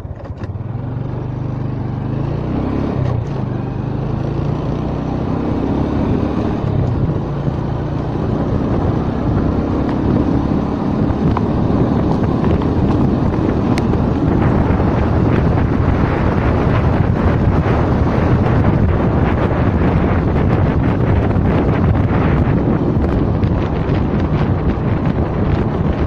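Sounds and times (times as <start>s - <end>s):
scooter engine running: 0.0s - 26.0s
wind rushing: 2.6s - 26.0s.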